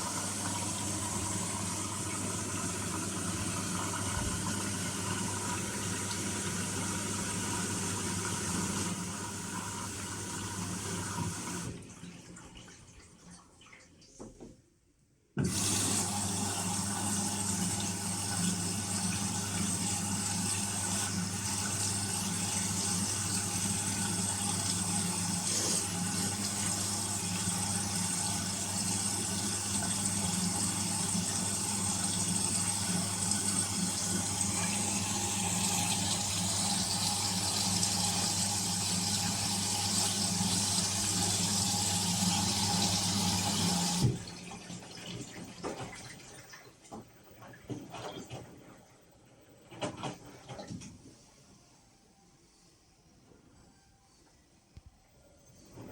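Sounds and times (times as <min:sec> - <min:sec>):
washing machine filling with water: 0:00.0 - 0:14.4, 0:15.4 - 0:51.3.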